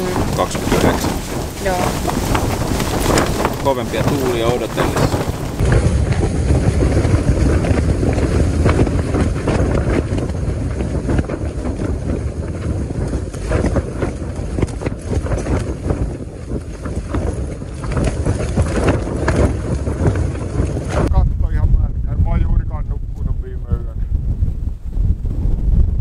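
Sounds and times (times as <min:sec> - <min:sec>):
strong wind rushing: 0:00.0 - 0:26.0
tent walls flapping: 0:00.0 - 0:26.0.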